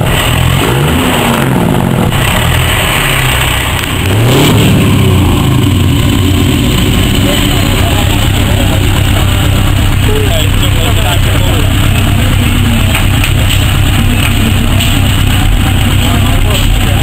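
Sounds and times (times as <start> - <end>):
diesel truck engine accelerating: 0.0 - 17.0.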